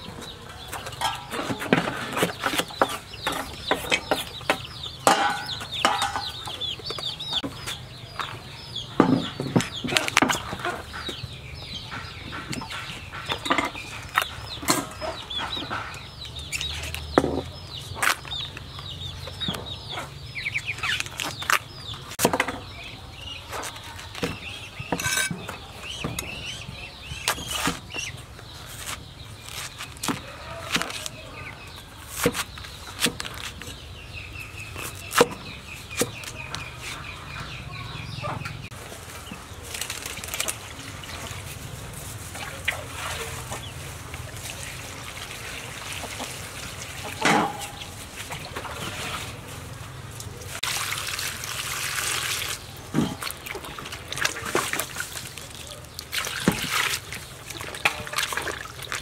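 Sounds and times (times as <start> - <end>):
chickens clucking: 0.0 - 50.7.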